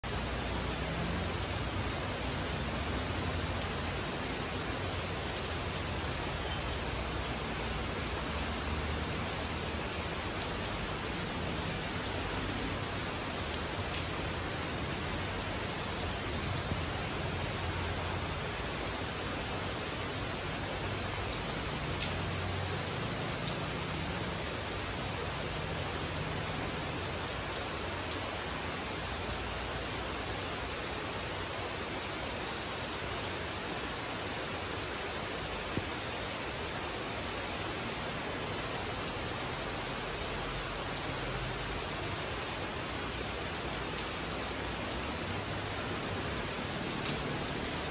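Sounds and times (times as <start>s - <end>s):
rain falling on foliage: 0.0s - 47.9s.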